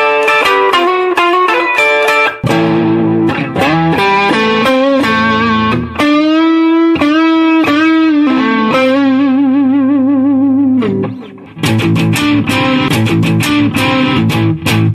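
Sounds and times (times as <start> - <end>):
distorted guitar chords: 0.0 - 14.9
overdriven electric guitar: 0.0 - 14.9.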